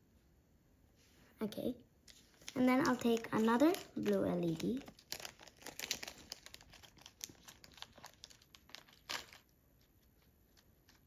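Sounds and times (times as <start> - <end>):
plastic bag crinkling: 2.0 - 11.0.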